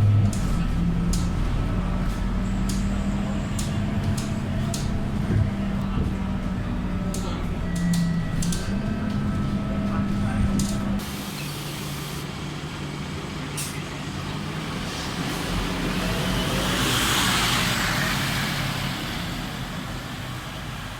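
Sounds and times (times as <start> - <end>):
bus diesel engine running: 0.0 - 20.9.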